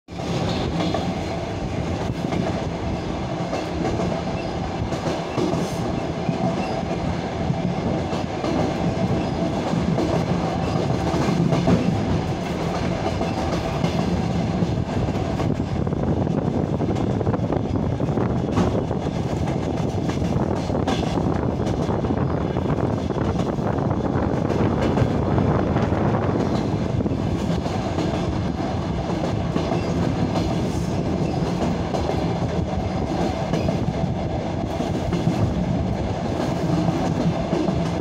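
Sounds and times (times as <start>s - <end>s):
train wheels rumbling on rail: 0.1s - 38.0s.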